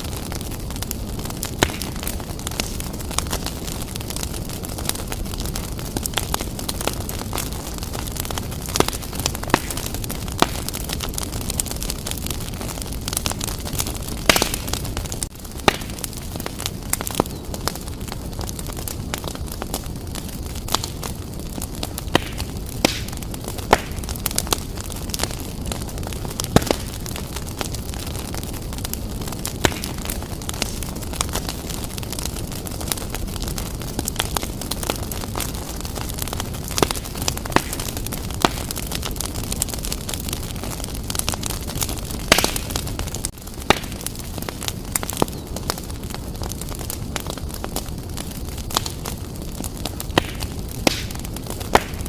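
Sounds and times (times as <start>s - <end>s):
burning wood crackling and popping: 0.0s - 52.0s
fire flames roaring: 0.0s - 52.0s.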